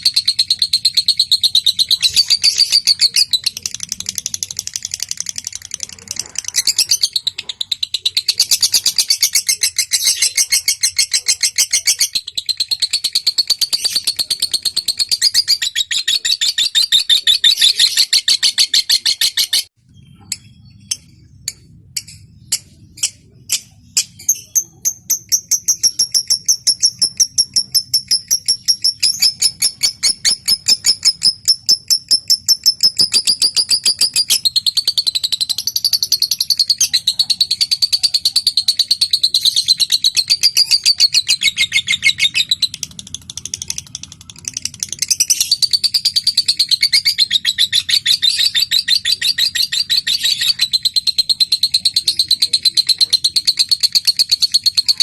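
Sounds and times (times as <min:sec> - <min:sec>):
lovebird chattering trill: 0:00.0 - 0:55.0.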